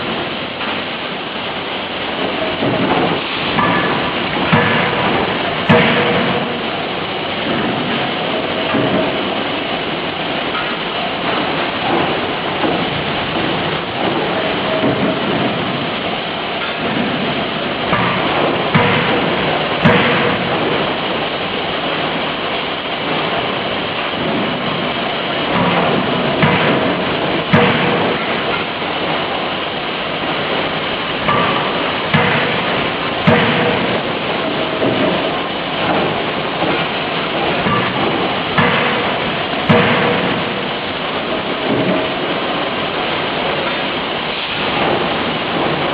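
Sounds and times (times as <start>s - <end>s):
loud shop noise: 0.0s - 45.9s
machinery running: 0.0s - 45.9s
forging hammer blows: 2.2s - 45.9s.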